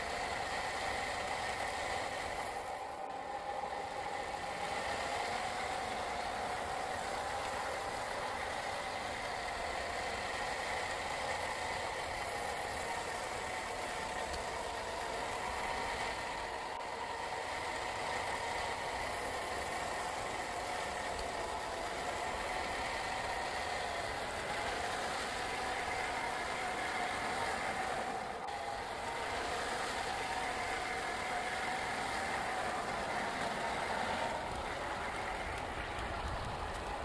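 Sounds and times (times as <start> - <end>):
electric motor whining: 0.0 - 37.0.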